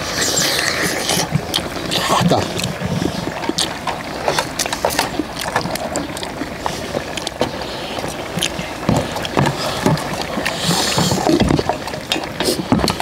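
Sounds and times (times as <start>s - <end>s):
chewing and sucking: 0.0s - 13.0s.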